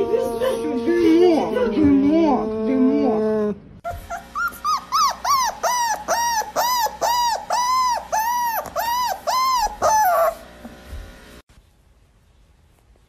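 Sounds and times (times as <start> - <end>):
dog whining: 0.0 - 10.5.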